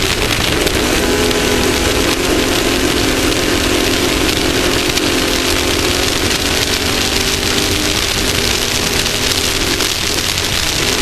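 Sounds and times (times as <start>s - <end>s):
off-road vehicle engine running: 0.0s - 11.0s
wind and road noise: 0.0s - 11.0s.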